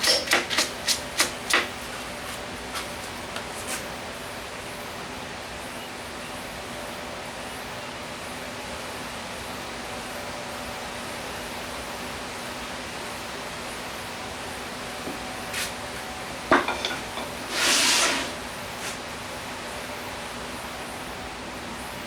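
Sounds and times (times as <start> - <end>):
steady background hiss: 0.8 - 22.0.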